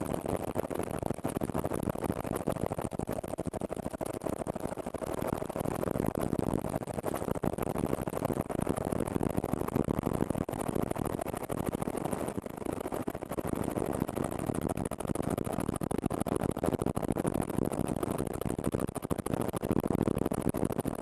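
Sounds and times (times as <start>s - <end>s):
helicopter engine drone and rotor chop: 0.0s - 21.0s.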